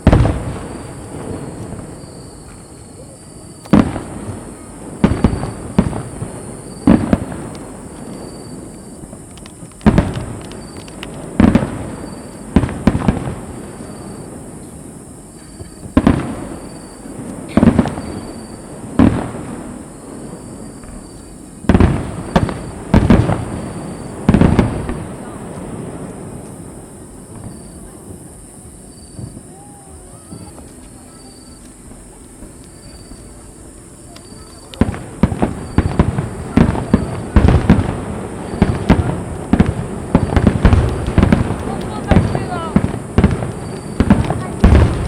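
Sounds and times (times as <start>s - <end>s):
firework shells bursting: 0.0s - 27.8s, 30.2s - 45.0s.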